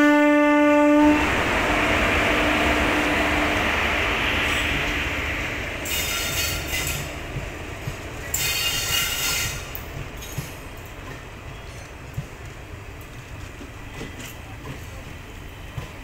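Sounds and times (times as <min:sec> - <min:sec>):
train coaches rumbling: 0:00.0 - 0:16.0.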